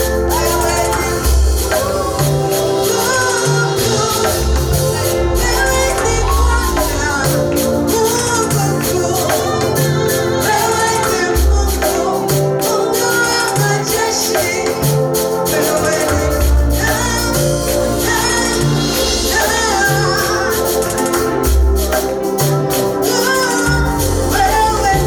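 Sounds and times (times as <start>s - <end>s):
bass: 0.0s - 25.0s
keyboard: 0.0s - 25.0s
voices singing gospel: 0.0s - 25.0s.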